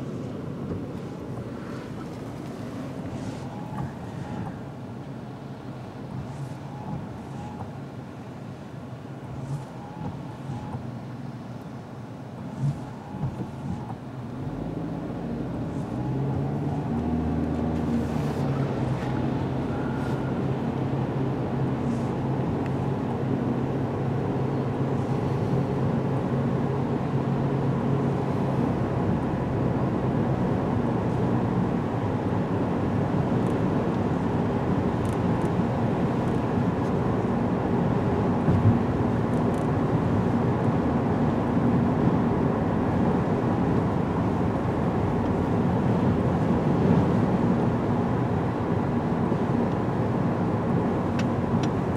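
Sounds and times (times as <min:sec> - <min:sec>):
car engine from inside cabin: 0:00.0 - 0:51.9.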